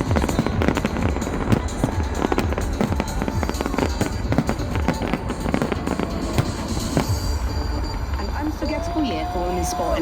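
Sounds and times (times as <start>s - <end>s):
deep fireworks booms: 0.0s - 9.0s
fireworks bursting and crackling: 0.0s - 9.8s
music soundtrack: 0.0s - 10.0s.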